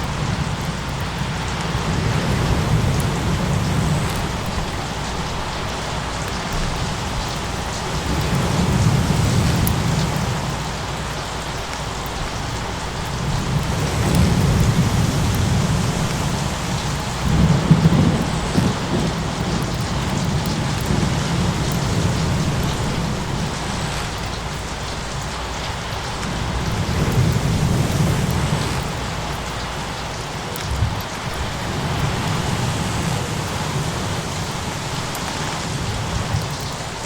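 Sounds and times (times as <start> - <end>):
rolling thunder: 0.0 - 37.0
steady rain: 0.0 - 37.0.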